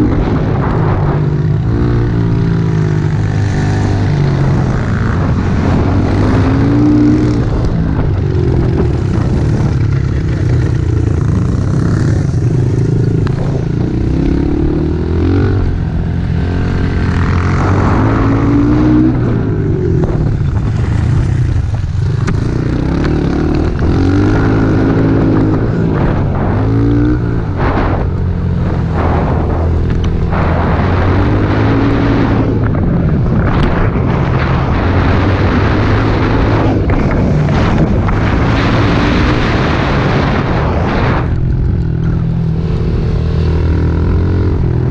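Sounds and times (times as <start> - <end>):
pit bike engine revving: 0.0 - 44.9.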